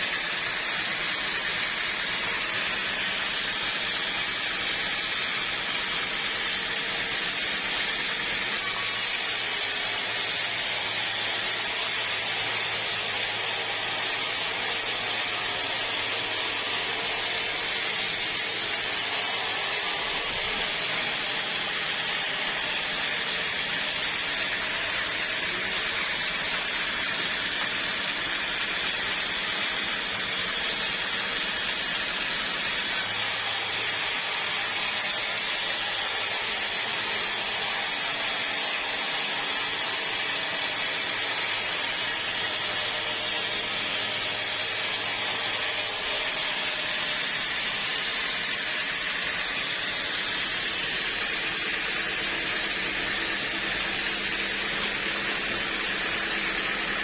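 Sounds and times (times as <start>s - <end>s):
sawmill machinery hissing: 0.0s - 57.0s.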